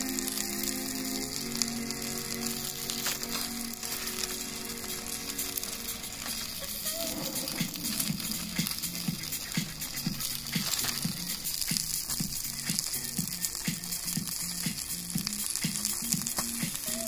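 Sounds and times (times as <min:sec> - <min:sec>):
food sizzling over campfire: 0:00.0 - 0:17.0.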